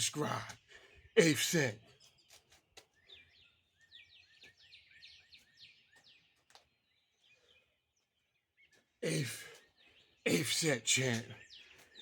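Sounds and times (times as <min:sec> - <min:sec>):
faint songbird chirping: 0:00.0 - 0:12.0.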